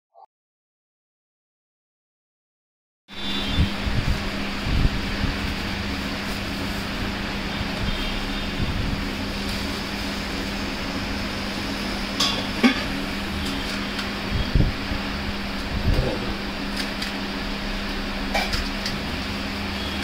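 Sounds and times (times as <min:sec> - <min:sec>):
mechanical hum and hiss: 0:03.1 - 0:20.0.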